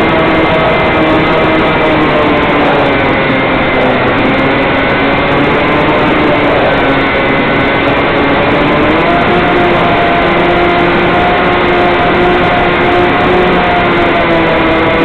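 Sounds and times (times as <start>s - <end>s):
model airplane motor and propeller: 0.0s - 15.0s
wind rush over microphone: 0.0s - 15.0s.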